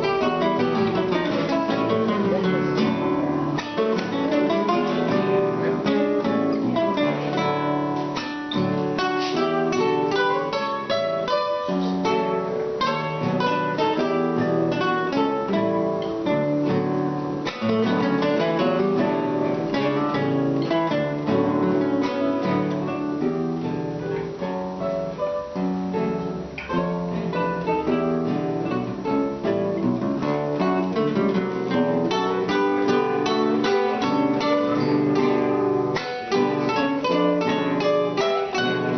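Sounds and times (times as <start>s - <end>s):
acoustic guitars playing: 0.0s - 38.9s.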